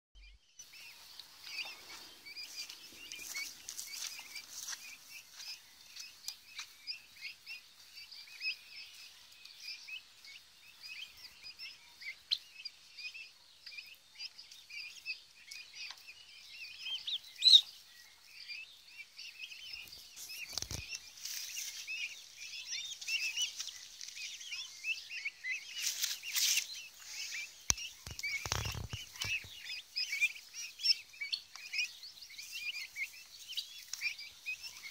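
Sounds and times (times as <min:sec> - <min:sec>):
turkey poults peeping: 0:00.2 - 0:34.9.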